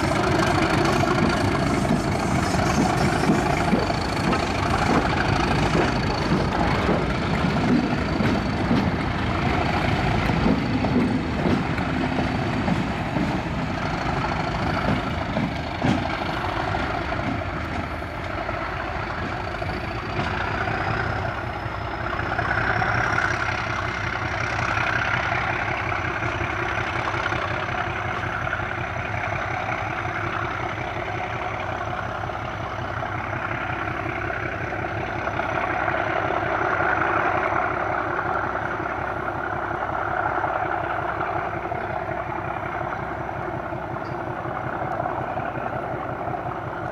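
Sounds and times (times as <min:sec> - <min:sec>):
diesel locomotive drone: 0:00.0 - 0:46.9
train wheels clattering over joints: 0:00.0 - 0:46.9.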